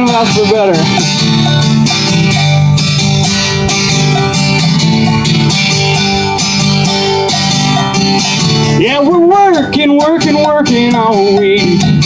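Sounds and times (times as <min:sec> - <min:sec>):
acoustic guitar strumming: 0:00.0 - 0:12.0
cowbell struck: 0:00.0 - 0:12.0.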